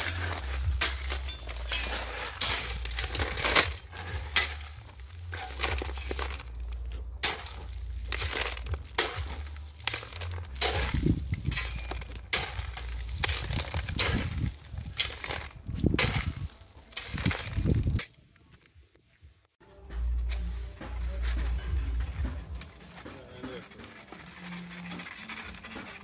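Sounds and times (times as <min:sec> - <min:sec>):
shovels digging gravel: 0:00.0 - 0:18.3, 0:20.2 - 0:26.0
clattering stones: 0:00.0 - 0:18.8, 0:21.9 - 0:26.0.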